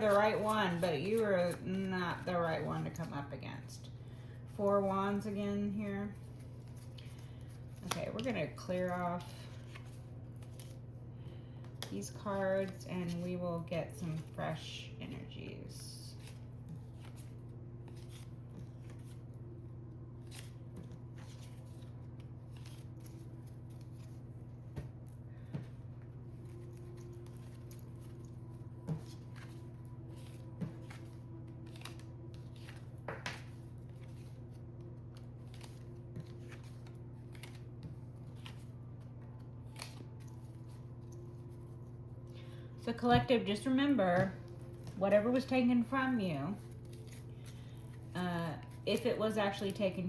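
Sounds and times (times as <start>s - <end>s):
cards being shuffled: 0.0s - 3.2s, 6.1s - 13.4s, 16.1s - 43.3s, 44.2s - 49.9s
steady low hum: 0.0s - 50.0s.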